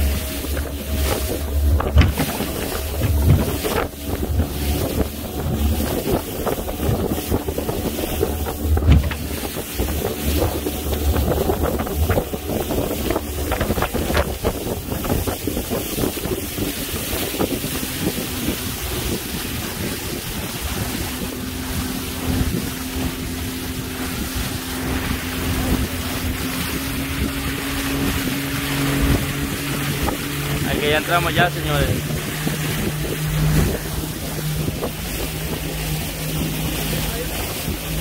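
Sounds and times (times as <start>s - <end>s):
boat motor humming: 0.0s - 38.0s
sea rushing by: 0.0s - 38.0s
wind buffeting microphone: 0.0s - 38.0s.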